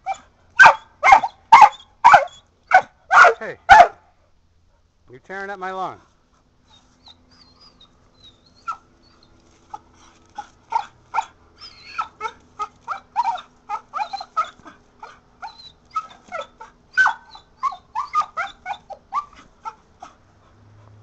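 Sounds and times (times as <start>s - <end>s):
dog whining and yipping: 0.0s - 3.9s, 6.6s - 20.2s.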